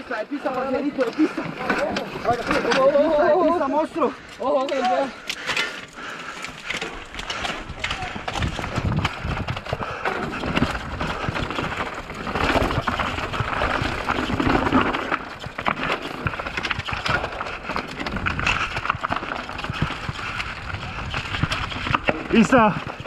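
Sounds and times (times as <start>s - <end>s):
bike rattling over rocks: 0.0s - 23.0s
tyre and wind noise: 0.0s - 23.0s.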